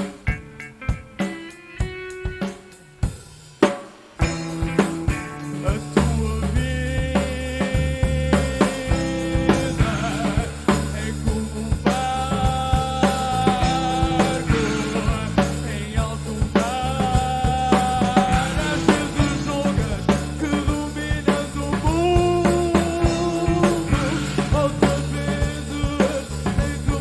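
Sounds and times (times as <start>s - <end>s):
instrumental rock band playing: 0.0s - 27.0s.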